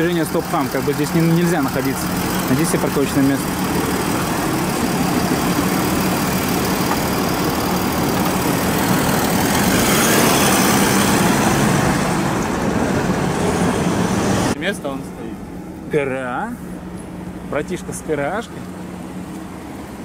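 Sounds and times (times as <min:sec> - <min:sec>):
street traffic: 0:00.0 - 0:20.0
suv engine driving away: 0:00.0 - 0:20.0.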